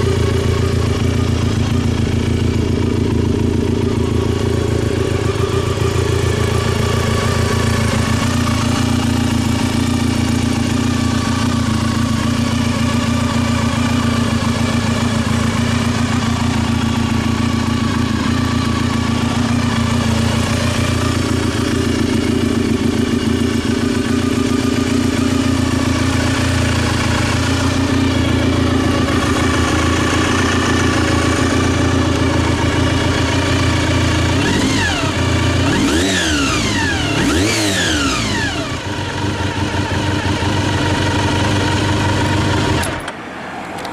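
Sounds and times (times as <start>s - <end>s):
motorcycle engine idling: 0.0s - 43.2s.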